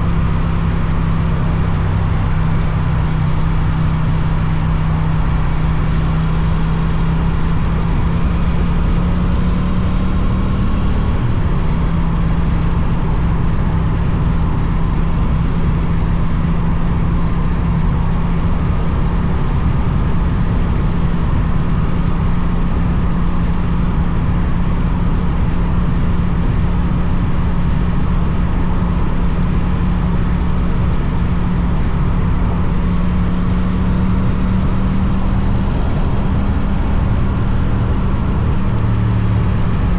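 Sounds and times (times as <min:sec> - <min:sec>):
motorcycle engine cruising: 0:00.0 - 0:25.6, 0:26.3 - 0:39.9
wind and road noise: 0:00.0 - 0:39.9.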